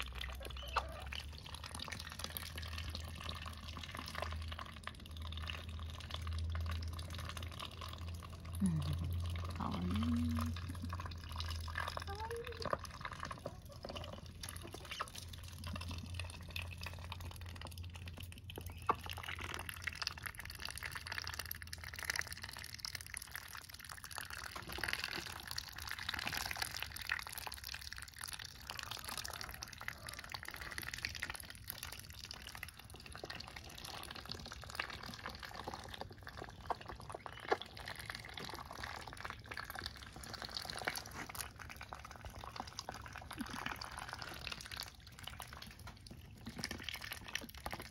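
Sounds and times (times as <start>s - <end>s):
ducks splashing and bill clicks: 0.0s - 8.4s, 10.8s - 47.9s.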